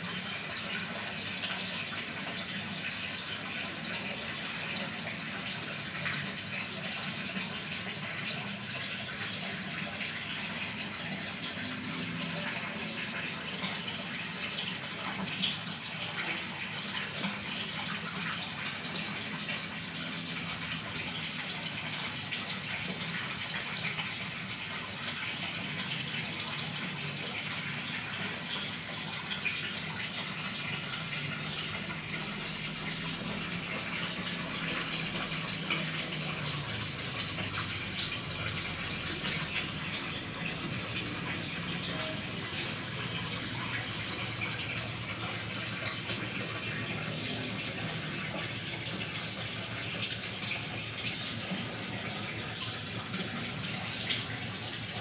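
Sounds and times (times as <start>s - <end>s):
water running and splashing: 0.0s - 55.0s.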